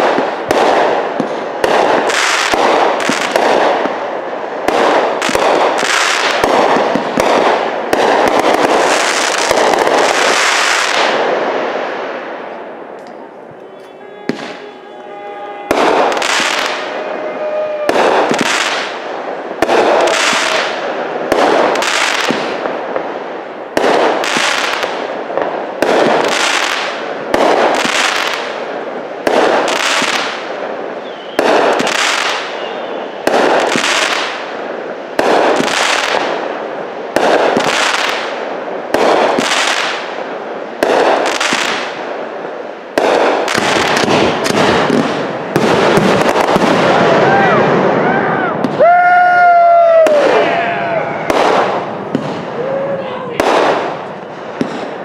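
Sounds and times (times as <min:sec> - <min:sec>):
firework crackling: 0:00.0 - 0:55.0.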